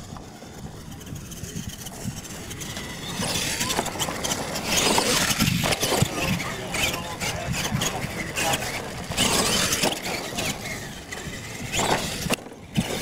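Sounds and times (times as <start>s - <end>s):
toy truck motor whine: 0.0s - 13.0s
tyres churning loose soil: 0.0s - 13.0s.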